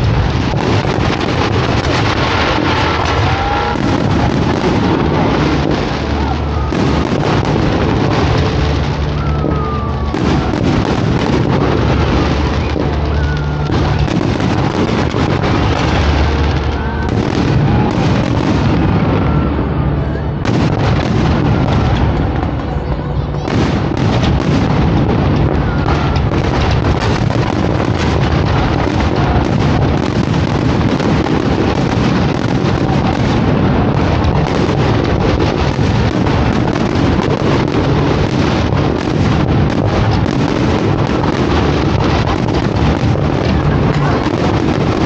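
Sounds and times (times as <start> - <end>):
crowd voices: 0.0 - 45.0
fireworks bangs and crackles: 0.0 - 45.0
fireworks whistling: 0.0 - 45.0.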